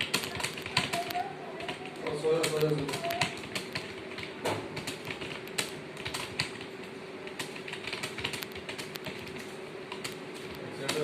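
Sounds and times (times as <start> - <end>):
faint steady hum: 0.0 - 11.0
fast keyboard typing: 0.0 - 11.0.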